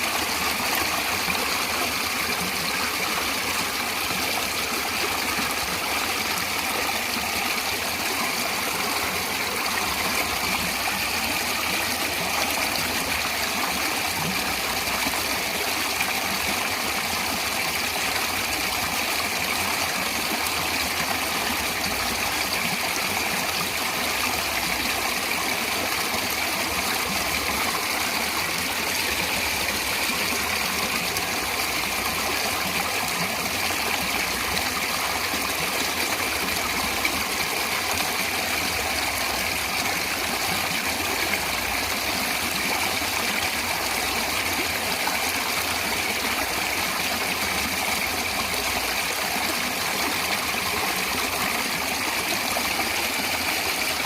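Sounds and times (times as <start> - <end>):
water flowing: 0.0 - 54.0.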